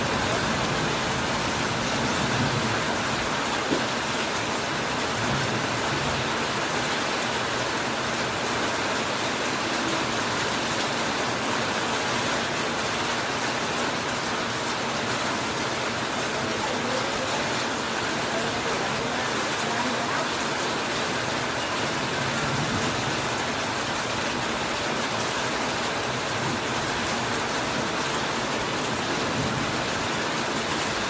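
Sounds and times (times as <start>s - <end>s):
heavy rain on a metal roof: 0.0s - 31.0s.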